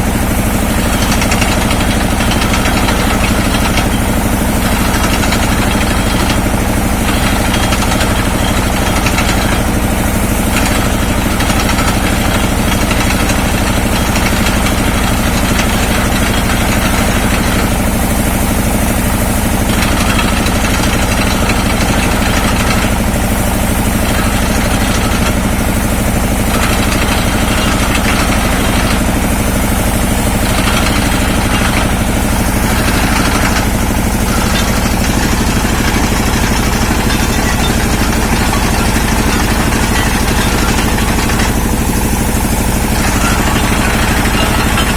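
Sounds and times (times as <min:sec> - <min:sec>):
drilling rig engine running: 0:00.0 - 0:44.9.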